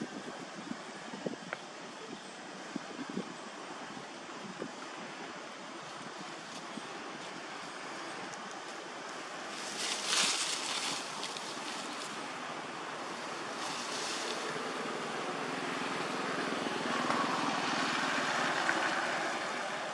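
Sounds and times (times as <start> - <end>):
wind-like outdoor hiss: 0.0 - 19.9.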